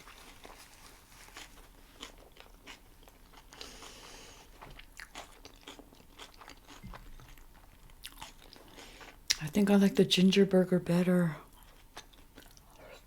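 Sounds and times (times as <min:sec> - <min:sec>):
chewing and biting food: 0:00.0 - 0:09.4, 0:11.6 - 0:13.0.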